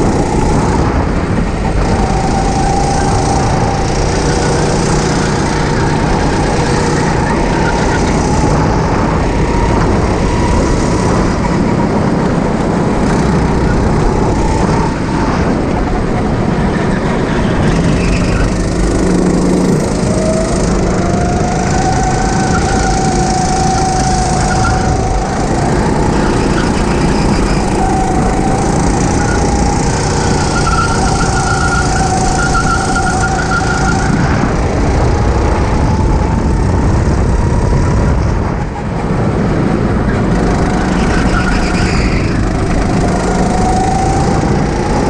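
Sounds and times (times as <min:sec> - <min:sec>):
dense rushing noise: 0:00.0 - 0:45.0
go-kart engine running: 0:00.0 - 0:45.0.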